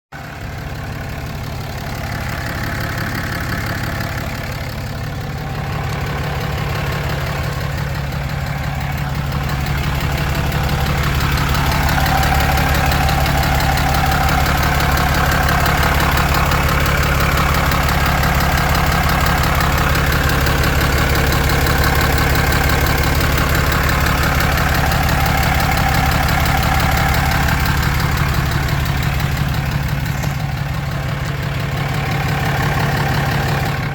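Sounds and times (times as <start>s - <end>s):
diesel engine idling: 0.1s - 33.9s
engine knocking and clicking: 0.1s - 33.9s.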